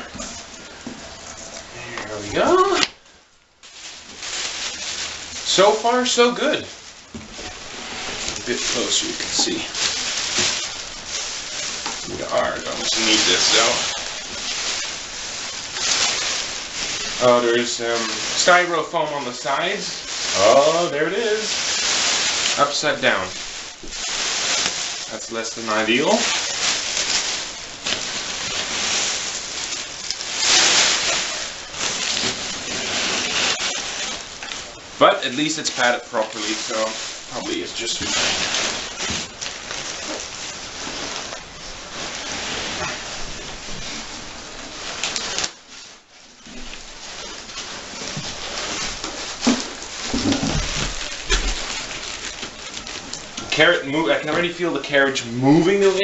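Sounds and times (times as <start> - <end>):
packing material rustling: 0.0 - 56.0.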